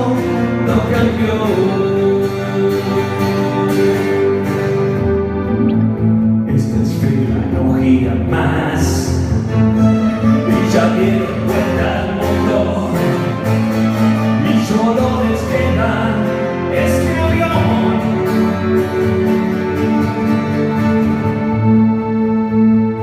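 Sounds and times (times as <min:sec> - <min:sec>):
rock band playing: 0:00.0 - 0:06.5, 0:09.4 - 0:23.0.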